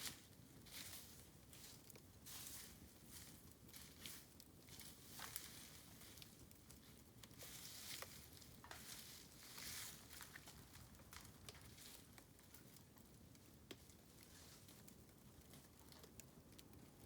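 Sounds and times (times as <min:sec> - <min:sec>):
bamboo fire crackling: 0:00.0 - 0:17.0.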